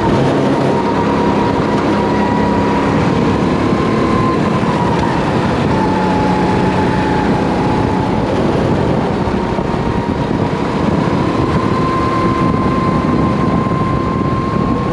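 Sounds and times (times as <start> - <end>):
kart engine running: 0.0 - 14.9
wind rush on microphone: 0.0 - 14.9.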